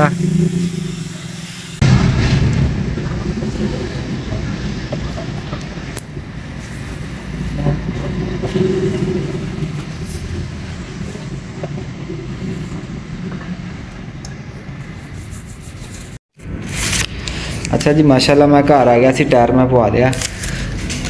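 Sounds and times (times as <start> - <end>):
engine and road rumble: 0.0 - 17.8.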